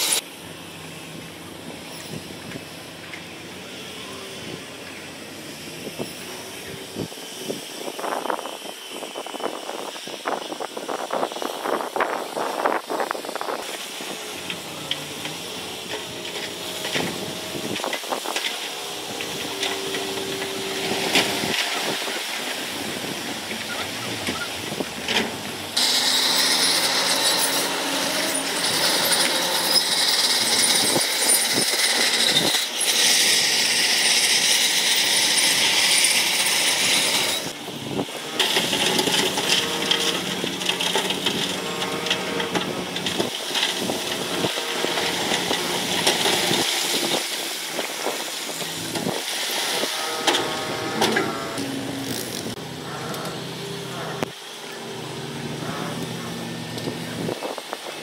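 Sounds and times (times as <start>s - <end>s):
construction machinery clatter: 0.0s - 58.0s.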